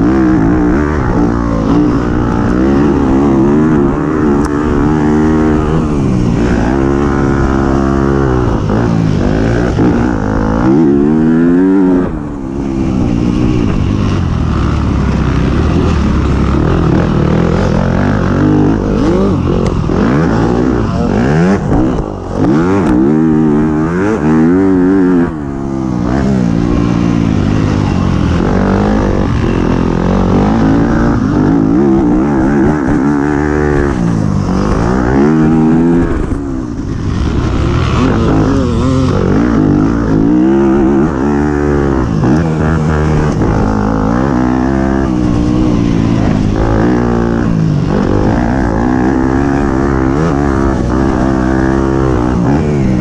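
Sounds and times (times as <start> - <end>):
race engine revving at full throttle: 0.0 - 53.0.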